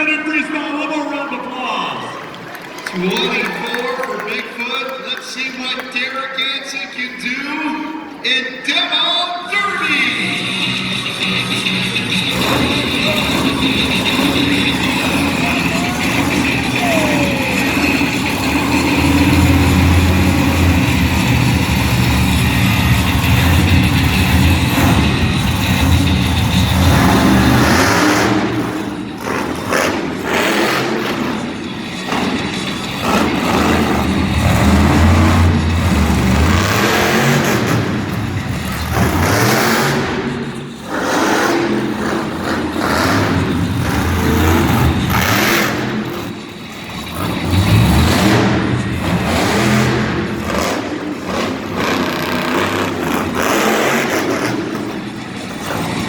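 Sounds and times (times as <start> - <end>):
monster truck engines revving: 0.0 - 56.0.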